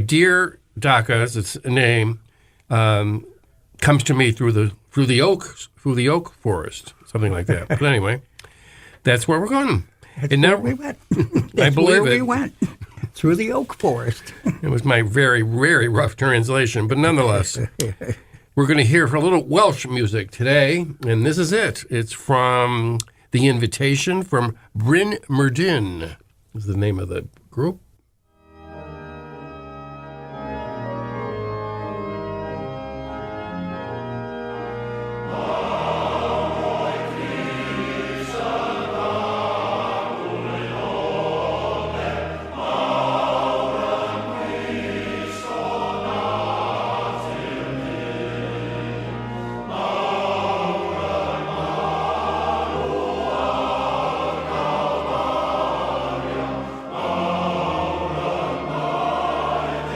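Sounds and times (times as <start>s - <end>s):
organ-like chords: 2.7s - 21.9s, 28.4s - 59.9s.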